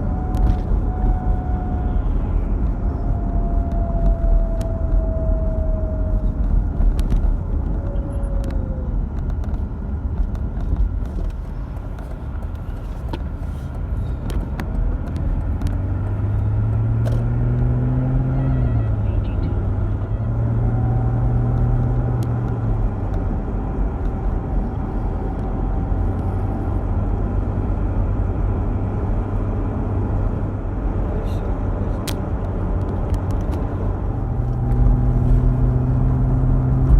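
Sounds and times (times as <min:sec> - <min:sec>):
car road rumble: 0:00.0 - 0:36.9
droning hum: 0:00.0 - 0:36.9.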